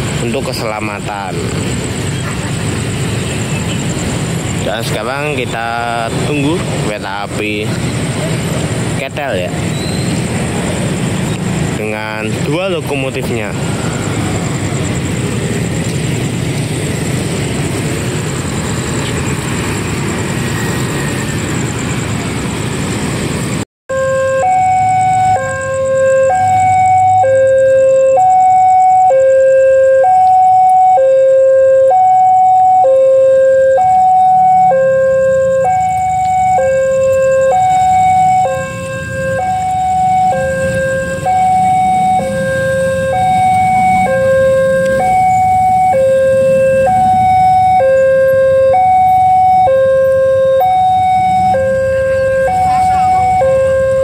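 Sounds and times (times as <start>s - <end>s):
level-crossing two-tone alarm: 0.0s - 54.0s.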